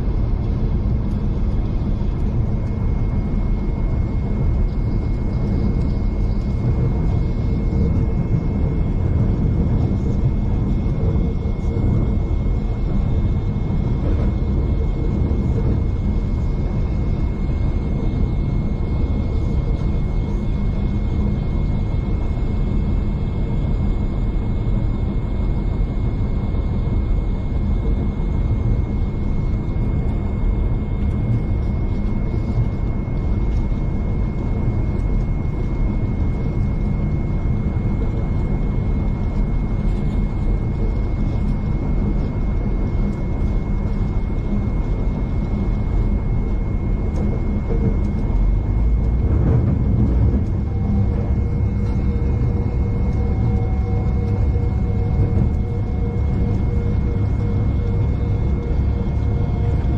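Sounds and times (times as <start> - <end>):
steady high whine: 0.0 - 59.9
train rumble from inside carriage: 0.0 - 59.9.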